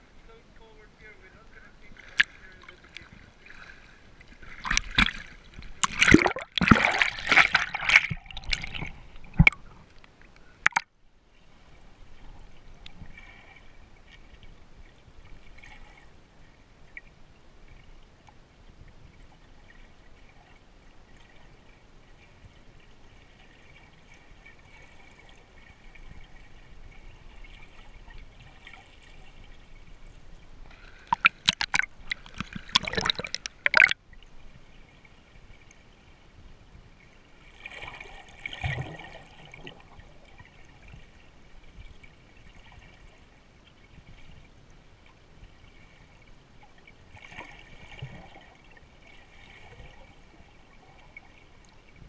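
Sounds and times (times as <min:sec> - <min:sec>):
water splashing and sloshing: 0:00.0 - 0:52.0.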